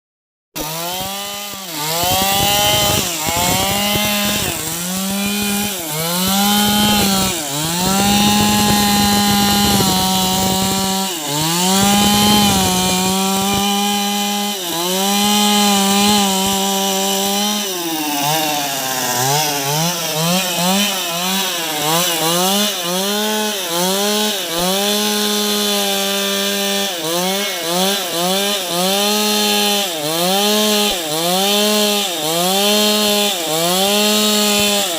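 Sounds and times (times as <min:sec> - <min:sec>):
chainsaw cutting wood: 0:00.6 - 0:34.9.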